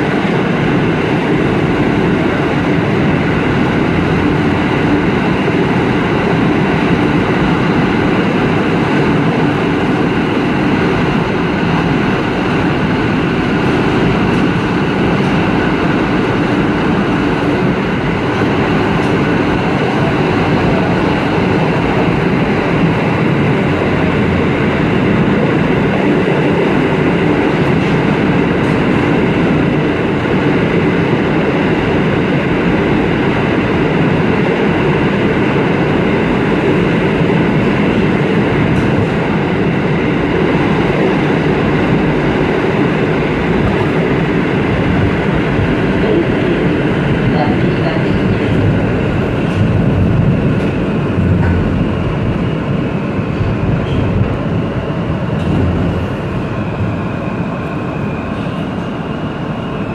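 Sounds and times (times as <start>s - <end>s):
subway train running through tunnel: 0.0s - 59.9s.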